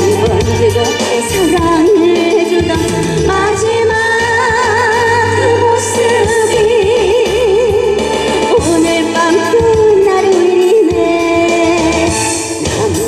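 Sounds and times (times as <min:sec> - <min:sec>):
instrumental accompaniment: 0:00.0 - 0:13.0
woman singing into a microphone: 0:00.0 - 0:13.0.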